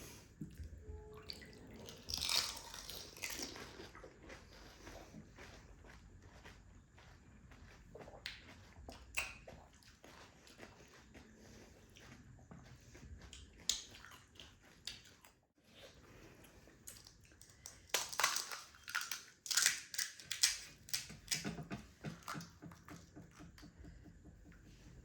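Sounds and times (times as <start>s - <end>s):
crunching and chewing crisp shells: 1.7s - 22.6s.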